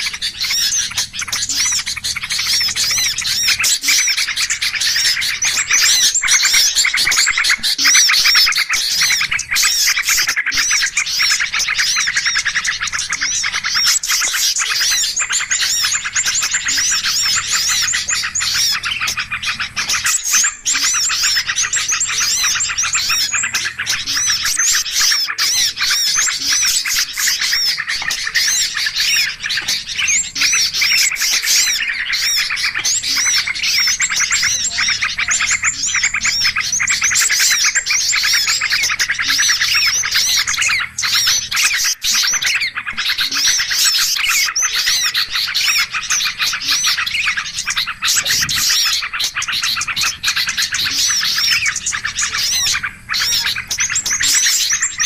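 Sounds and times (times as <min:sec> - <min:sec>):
songbirds chirping chorus: 0:00.0 - 0:55.0.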